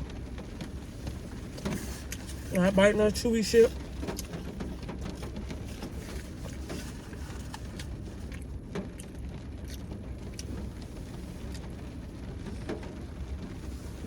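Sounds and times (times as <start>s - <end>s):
car interior rumble: 0.0s - 14.0s.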